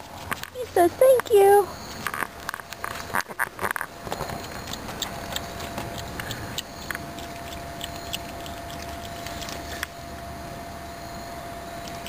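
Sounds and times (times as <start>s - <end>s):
raccoon chewing acorns: 0.0s - 10.2s
steady thin hum: 0.0s - 12.0s.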